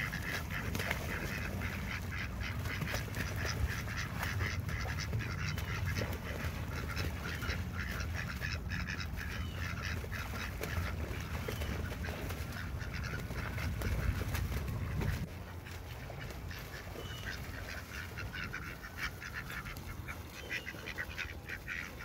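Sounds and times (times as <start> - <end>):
duck splashing in water: 0.0 - 22.0
ducks quacking: 0.0 - 22.0.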